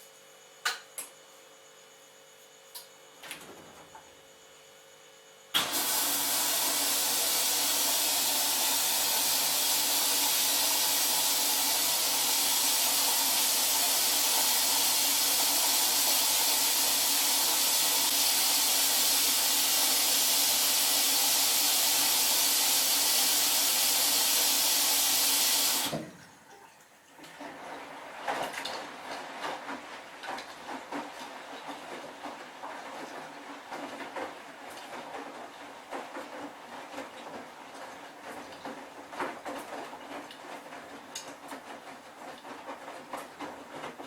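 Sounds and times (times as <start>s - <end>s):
water hissing into washing machine: 5.6s - 44.0s.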